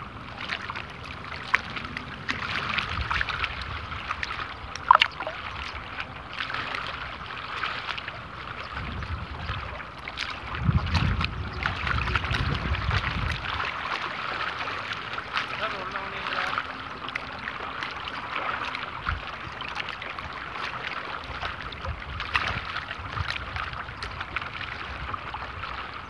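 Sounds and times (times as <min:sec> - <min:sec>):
wind rumbling on microphone: 0:00.0 - 0:14.8, 0:18.9 - 0:19.6, 0:20.2 - 0:26.0
small waves lapping and splashing: 0:00.0 - 0:26.0.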